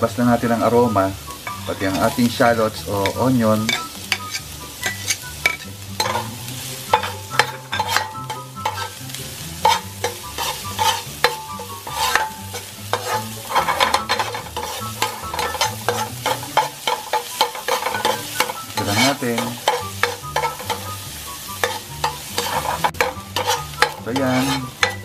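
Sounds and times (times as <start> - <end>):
aromatics sizzling in hot oil: 0.0 - 25.0
metal ladle scraping wok: 0.6 - 25.0.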